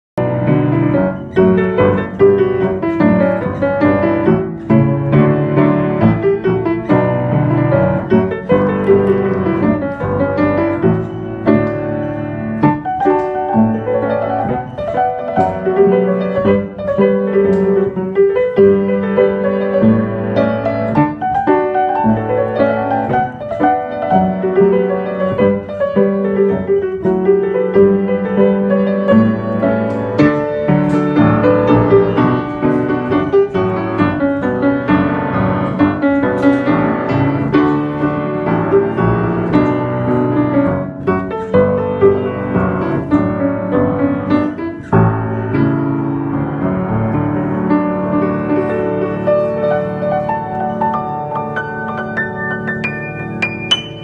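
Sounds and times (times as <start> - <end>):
upright piano playing: 0.2 - 54.0.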